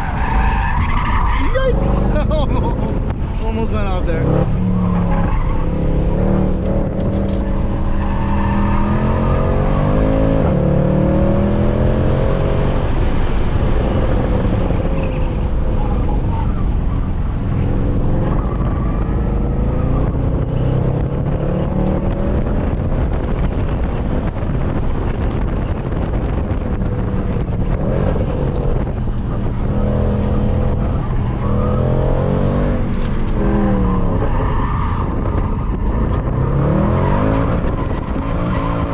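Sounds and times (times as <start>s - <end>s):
car engine revving hard: 4.0s - 15.0s, 17.6s - 24.4s, 25.2s - 38.9s.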